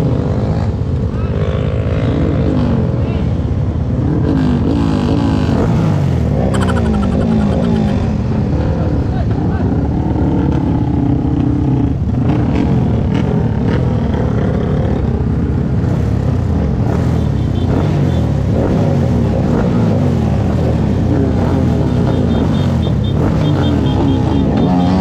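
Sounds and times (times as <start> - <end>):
motorcycles passing by: 0.0 - 25.0.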